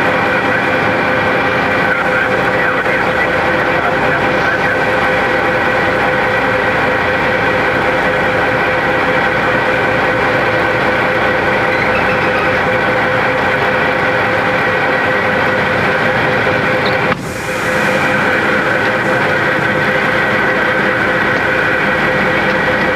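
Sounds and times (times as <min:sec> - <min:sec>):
truck engine idling: 0:00.0 - 0:22.9.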